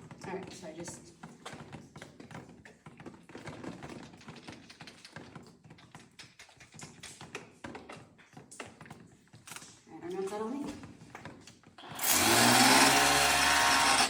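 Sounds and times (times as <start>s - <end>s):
hard objects clicking and tapping: 0.0s - 14.0s.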